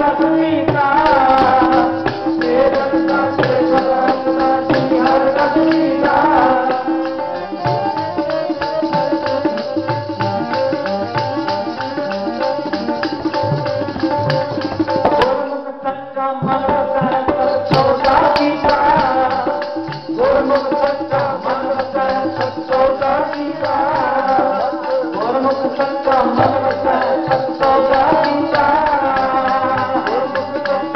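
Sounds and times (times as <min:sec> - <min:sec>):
jingling percussion: 0:00.0 - 0:15.5, 0:16.7 - 0:30.9
tabla strokes: 0:00.0 - 0:15.6, 0:16.4 - 0:30.9
harmonium holding notes: 0:00.0 - 0:30.9
person singing: 0:00.0 - 0:30.9.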